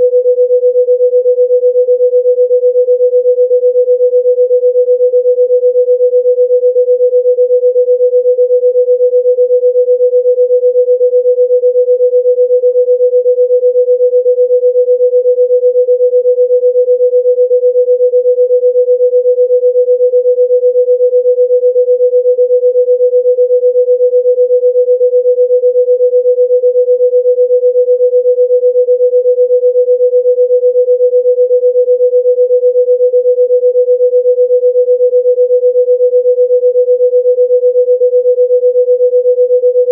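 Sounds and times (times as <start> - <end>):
pulsing electronic sine tone: 0.0 - 39.9.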